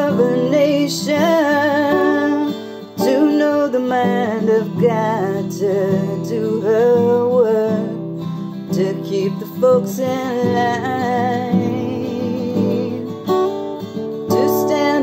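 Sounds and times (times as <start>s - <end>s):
woman singing slow song: 0.0s - 13.4s, 14.2s - 15.0s
acoustic guitar: 0.0s - 15.0s.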